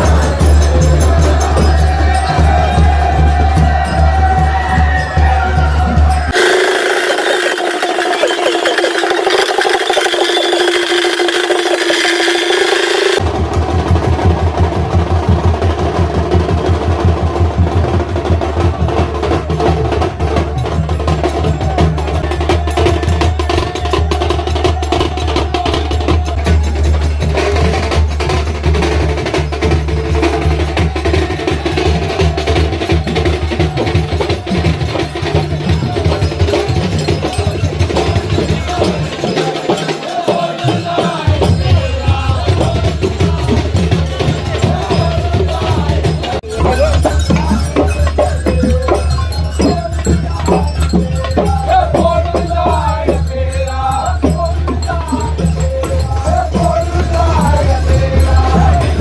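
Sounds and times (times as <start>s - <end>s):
music with fast percussion: 0.0s - 59.0s.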